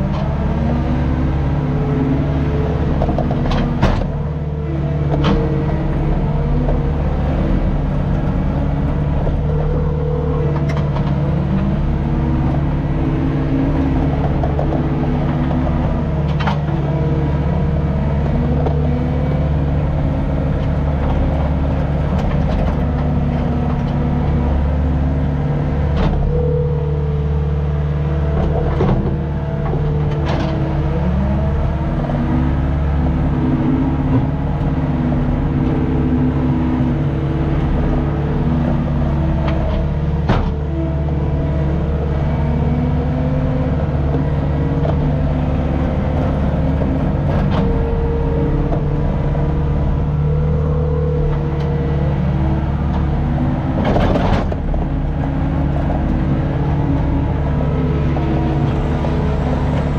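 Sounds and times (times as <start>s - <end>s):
skid steer engine and hydraulics: 0.0s - 59.9s.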